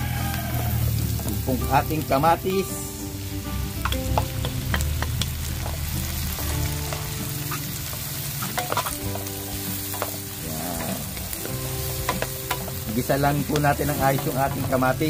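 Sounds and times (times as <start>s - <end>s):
tomatoes sizzling in hot oil: 0.0s - 15.0s.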